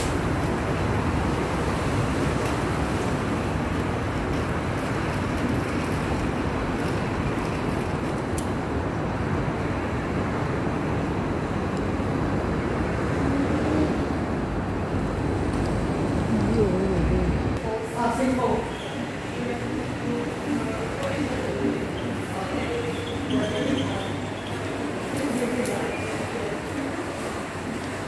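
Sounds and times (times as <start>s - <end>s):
road traffic noise: 0.0s - 28.0s.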